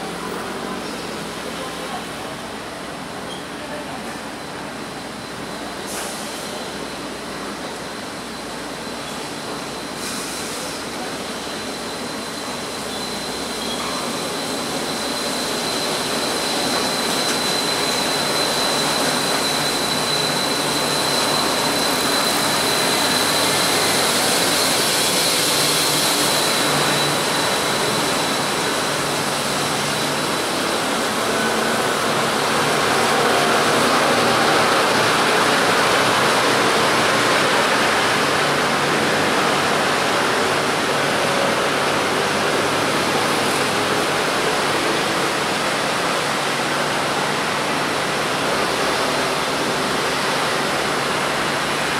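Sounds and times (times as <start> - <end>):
train tyres and motors rumbling: 0.0 - 51.9.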